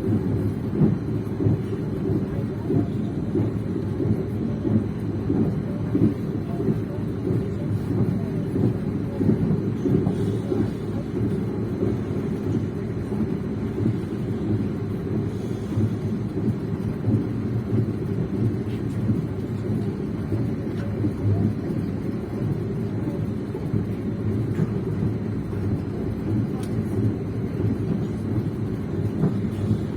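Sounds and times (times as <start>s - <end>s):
train rumbling on rails: 0.0s - 29.9s.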